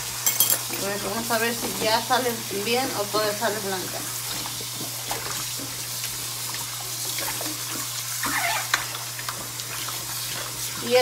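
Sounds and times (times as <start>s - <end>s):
faucet running into colander: 0.0s - 11.0s.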